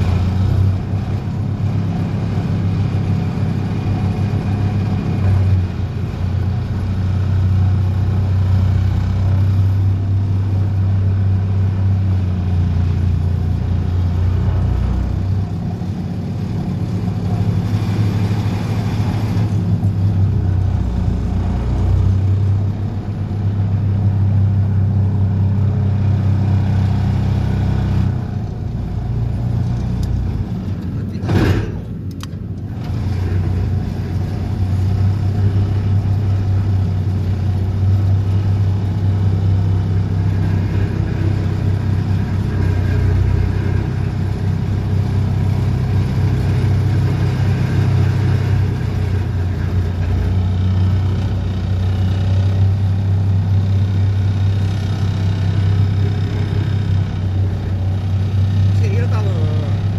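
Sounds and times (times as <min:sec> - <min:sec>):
vibro hammer and excavator engine drone: 0:00.0 - 0:59.9.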